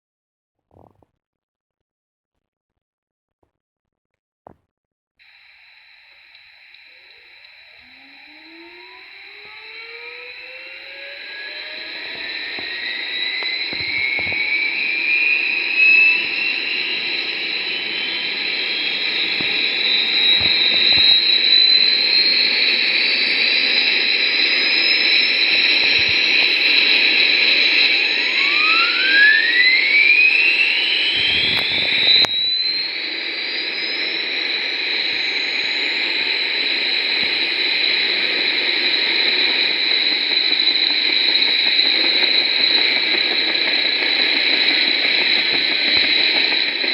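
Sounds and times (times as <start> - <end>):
second rising whine: 5.2 - 46.9
synthesized turbine whine: 5.2 - 46.9.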